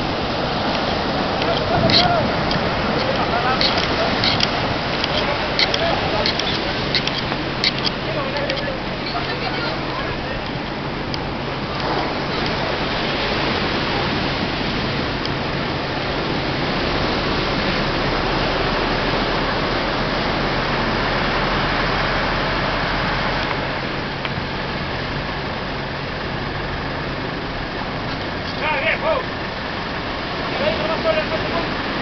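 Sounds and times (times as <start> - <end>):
low engine hum: 0.0 - 32.0
steady rushing noise: 0.0 - 32.0.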